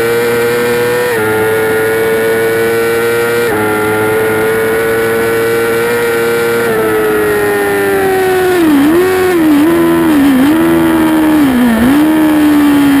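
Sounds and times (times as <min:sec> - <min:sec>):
motorcycle engine downshifting: 0:00.0 - 0:13.0.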